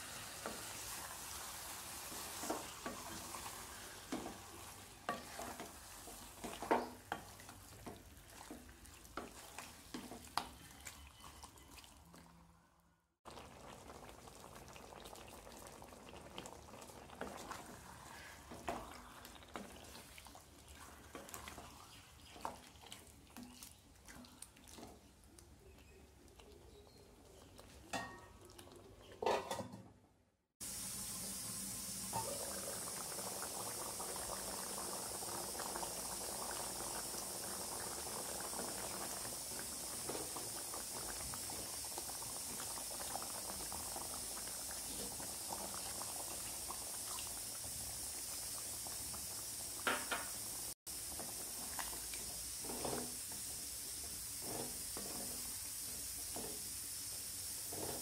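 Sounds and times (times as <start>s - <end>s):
curry simmering hiss: 0.0s - 12.0s, 13.3s - 29.1s, 30.6s - 58.0s.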